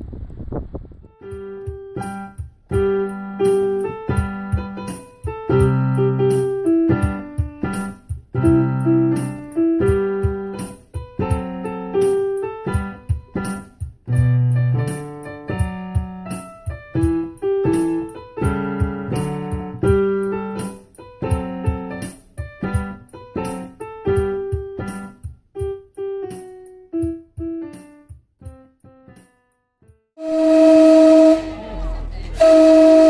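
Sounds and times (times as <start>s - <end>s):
solo piano music: 1.0s - 33.0s.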